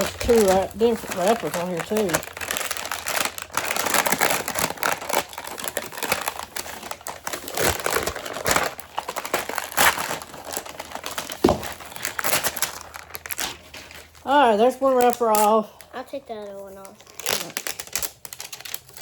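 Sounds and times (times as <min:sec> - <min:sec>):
plastic wrapper crackling: 0:00.0 - 0:19.0.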